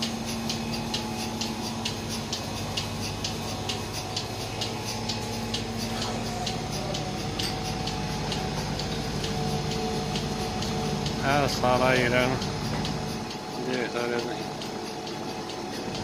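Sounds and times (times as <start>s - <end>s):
milking machine pulsators ticking: 0.0s - 16.0s
motor hum: 0.0s - 16.0s.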